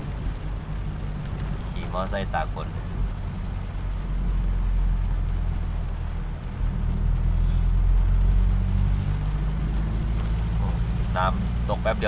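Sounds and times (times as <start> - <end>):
car engine and road hum: 0.0 - 12.0
rain and tyres hissing: 0.0 - 12.0.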